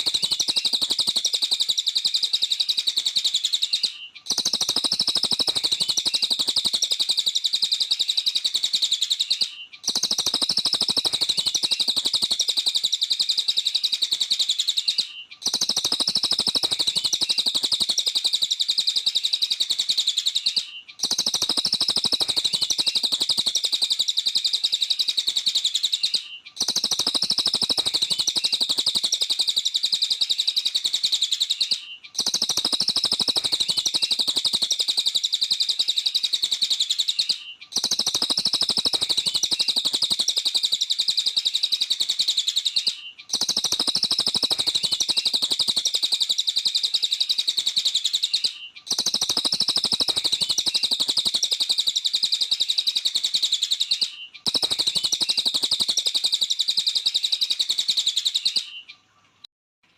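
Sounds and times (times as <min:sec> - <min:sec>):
songbird high-pitched trill: 0:00.0 - 0:59.0.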